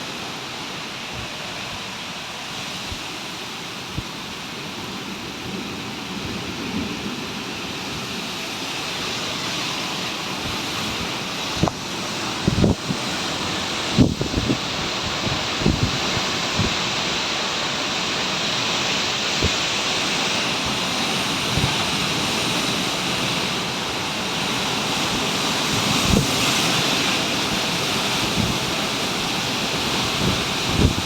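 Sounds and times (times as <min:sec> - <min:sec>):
storm wind rushing: 0:00.0 - 0:31.0.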